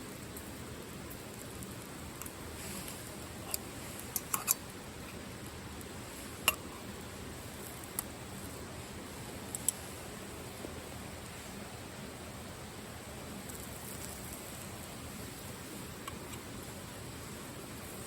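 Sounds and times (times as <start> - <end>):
rain and river water hiss: 0.0 - 18.0.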